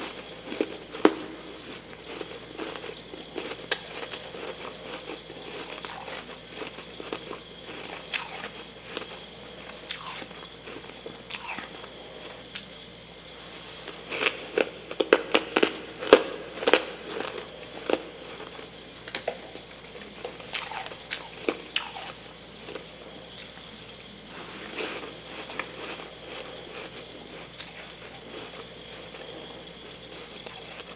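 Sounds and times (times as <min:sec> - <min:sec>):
chewing crunchy frost: 0:00.0 - 0:30.9.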